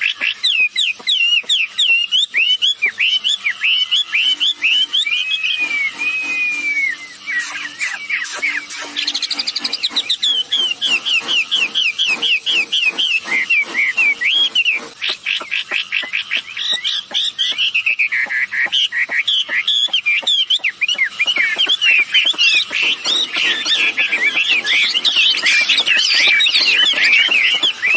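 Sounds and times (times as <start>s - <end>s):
birds chirping and whistling: 0.0s - 27.9s.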